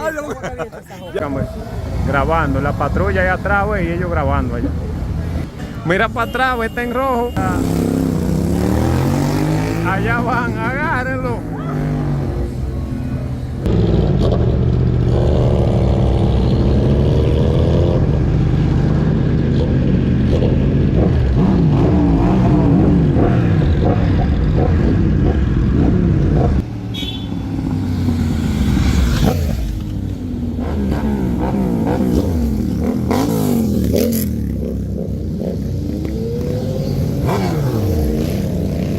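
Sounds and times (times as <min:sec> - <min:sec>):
motorcycle engines accelerating: 0:01.1 - 0:38.9.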